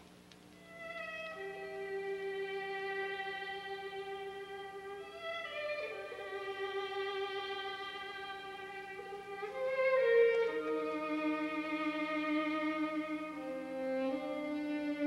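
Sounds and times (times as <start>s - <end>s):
violin holding long notes: 0.6s - 15.0s.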